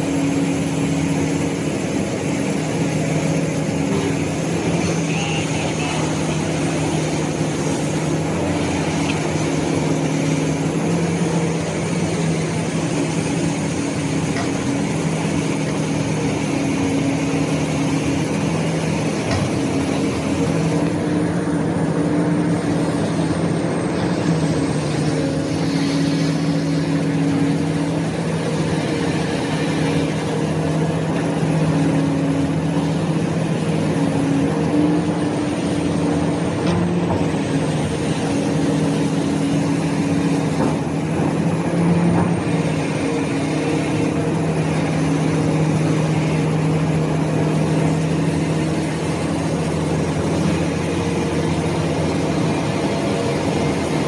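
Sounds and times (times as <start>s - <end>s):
heavy diesel machinery humming: 0.0s - 54.0s.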